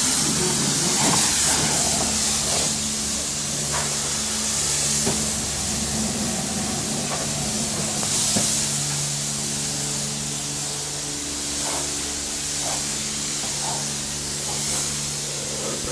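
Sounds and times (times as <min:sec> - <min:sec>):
pressure washer spray hissing: 0:00.0 - 0:15.9
steady low hum: 0:00.0 - 0:15.9.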